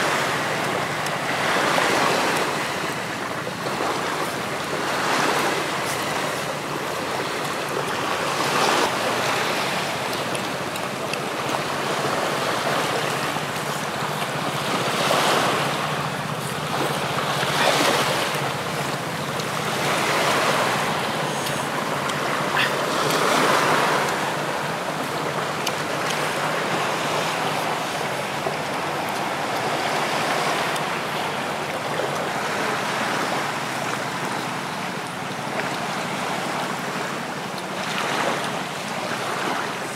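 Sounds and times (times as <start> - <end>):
surf washing on beach: 0.0 - 39.9.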